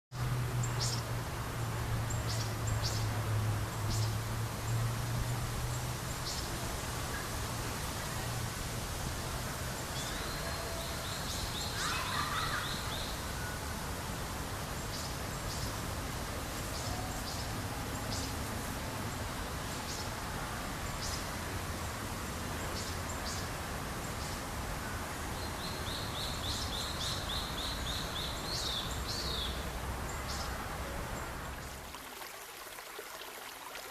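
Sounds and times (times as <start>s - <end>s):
stream babbling: 0.1s - 33.9s.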